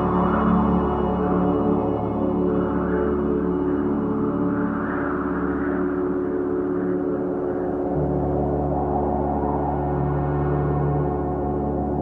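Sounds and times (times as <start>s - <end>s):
ambient music with gong-like tones: 0.0s - 12.0s.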